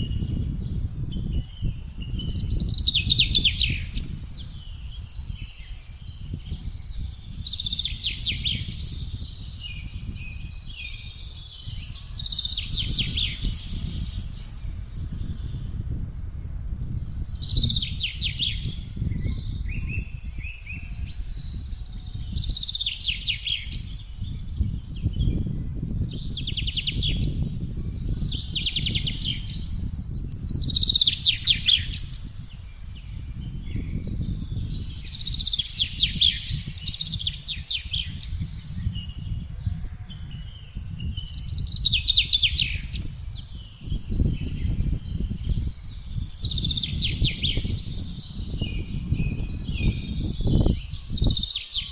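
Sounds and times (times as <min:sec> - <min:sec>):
gusting wind: 0:00.0 - 0:51.9
songbird trilling: 0:01.2 - 0:15.6, 0:17.1 - 0:39.4, 0:40.1 - 0:51.9.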